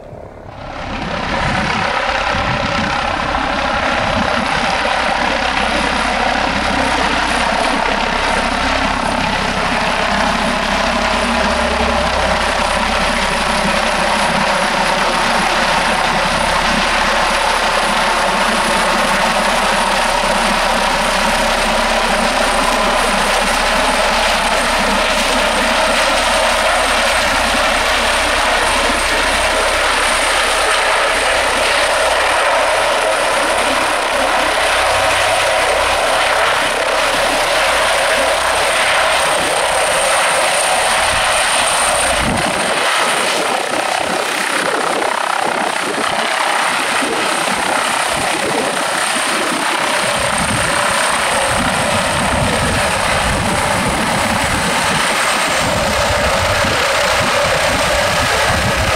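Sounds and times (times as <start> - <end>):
helicopter rotor and turbine noise: 0.0 - 58.9
high turbine whine: 0.0 - 58.9.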